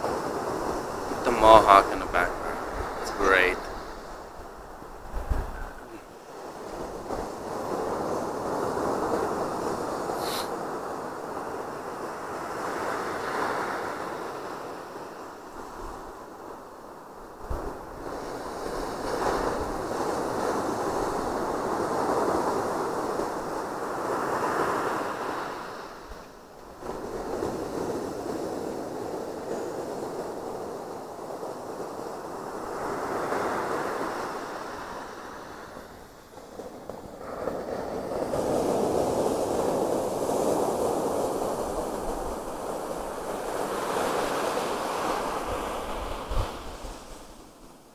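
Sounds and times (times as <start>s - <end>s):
surf breaking on beach: 0.0s - 47.9s.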